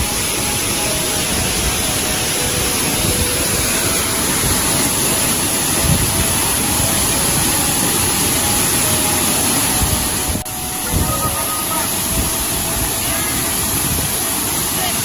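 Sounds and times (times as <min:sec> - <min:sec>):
falling water rushing: 0:00.0 - 0:15.0.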